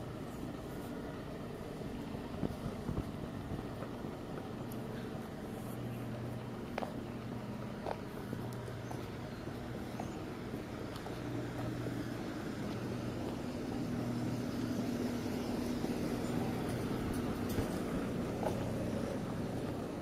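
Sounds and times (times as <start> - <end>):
street noise: 0.0 - 20.0
vehicle engine humming: 0.0 - 20.0.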